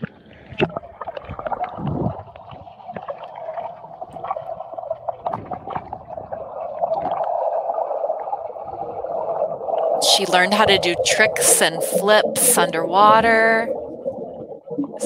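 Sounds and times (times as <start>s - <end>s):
muffled splashing and bubbling: 0.0s - 15.0s
underwater hum: 0.0s - 15.0s.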